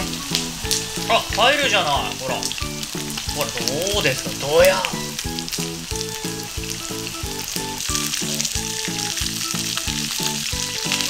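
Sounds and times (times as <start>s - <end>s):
background music with beat: 0.0s - 11.0s
chicken wings sizzling in oil: 0.0s - 11.0s.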